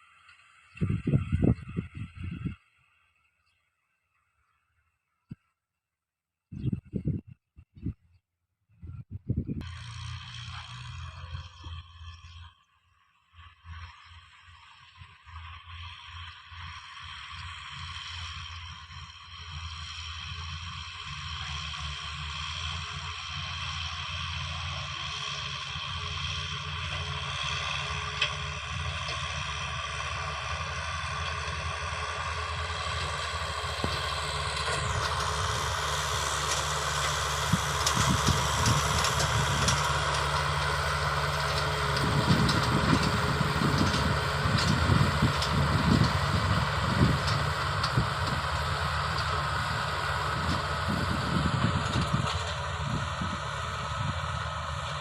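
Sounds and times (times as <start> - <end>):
diesel engine running: 0.0 - 2.6, 9.6 - 55.0.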